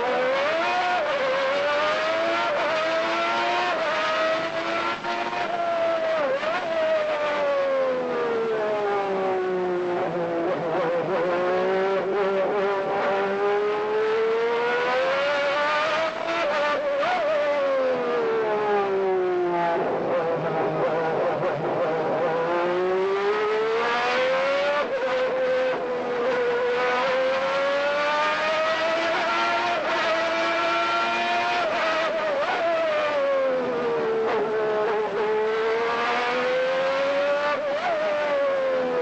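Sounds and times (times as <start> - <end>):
racing car engine revving: 0.0 - 39.0.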